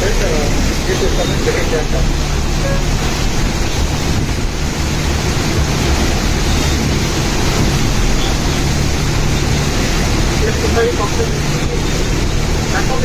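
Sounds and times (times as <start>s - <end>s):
heavy rain: 0.0s - 13.0s
low rumble: 0.0s - 13.0s
wind rushing: 0.0s - 13.0s.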